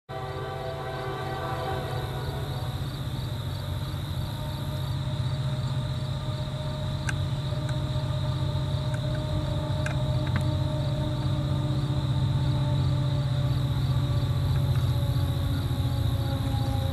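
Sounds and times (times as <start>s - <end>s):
locomotive horn chord: 0.1s - 5.2s, 8.4s - 16.9s
diesel locomotive rumble: 0.1s - 16.9s.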